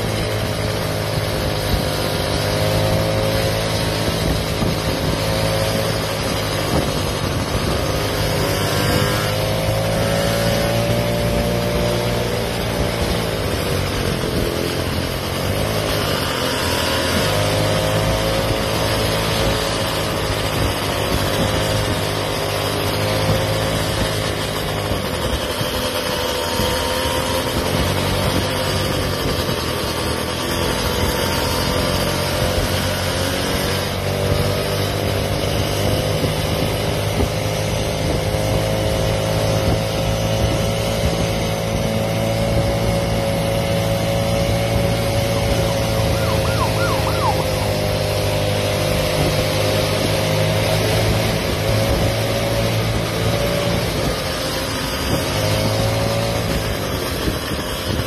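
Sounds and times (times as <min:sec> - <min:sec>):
road and wind noise: 0:00.0 - 0:58.0
scooter motor whine: 0:00.0 - 0:58.0.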